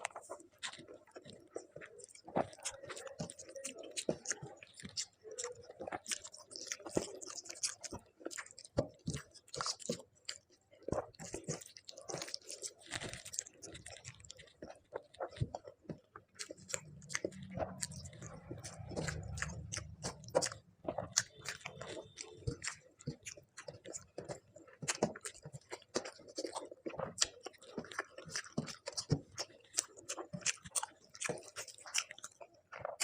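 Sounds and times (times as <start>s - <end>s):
person chewing and crunching: 0.0s - 33.0s.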